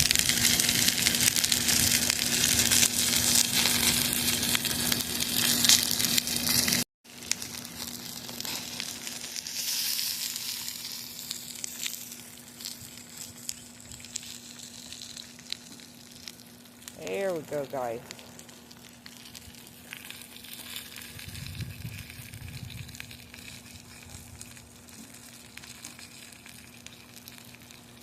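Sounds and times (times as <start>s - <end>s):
fire crackling and popping: 0.0s - 28.0s
fire hissing: 0.0s - 28.0s.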